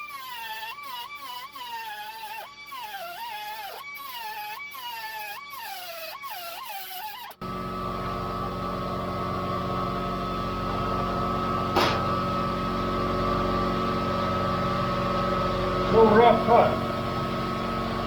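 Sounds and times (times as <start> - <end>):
power tool cutting sheet metal: 0.0 - 18.0.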